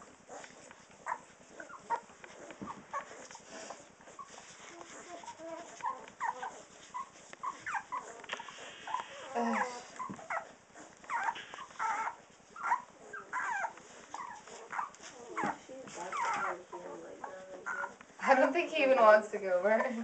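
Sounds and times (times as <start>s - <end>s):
puppies squeaking and whimpering: 0.0s - 20.0s.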